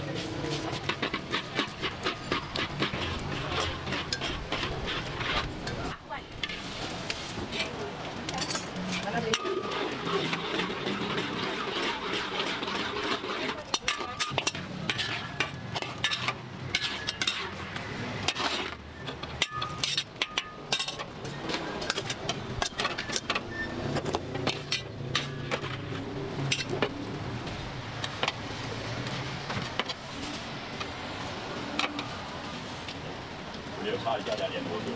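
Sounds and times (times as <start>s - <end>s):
metal utensils scraping in a wok: 0.0s - 28.4s.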